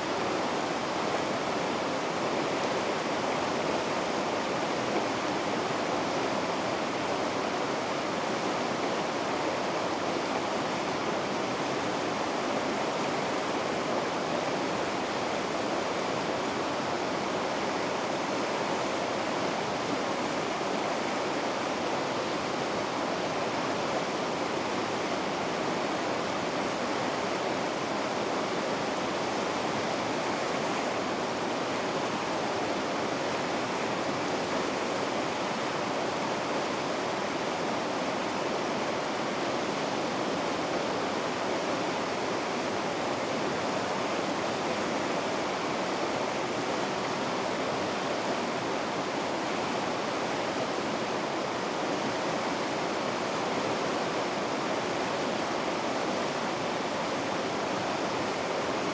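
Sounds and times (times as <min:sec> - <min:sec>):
river rapids rushing: 0:00.0 - 0:58.9.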